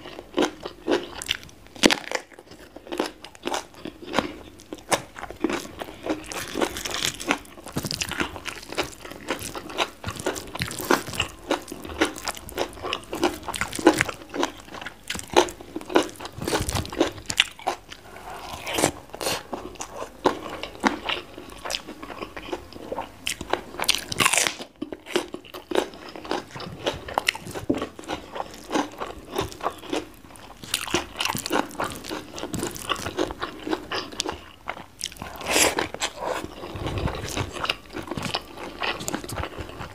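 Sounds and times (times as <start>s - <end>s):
crunching and chewing vegetables: 0.0s - 39.9s.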